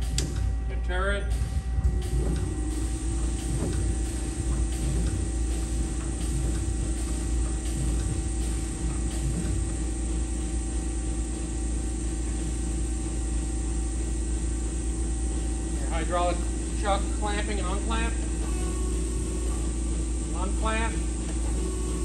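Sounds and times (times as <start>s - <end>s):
lathe humming idle: 1.4s - 22.0s.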